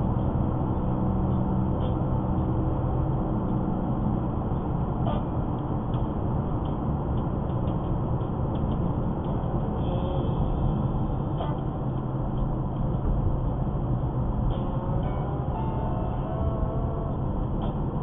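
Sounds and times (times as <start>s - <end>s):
car tyre and engine rumble: 0.0s - 18.0s.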